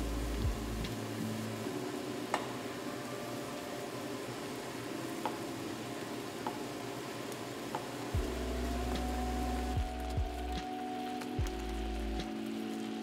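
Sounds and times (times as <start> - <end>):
broth simmering and bubbling: 0.0 - 13.0.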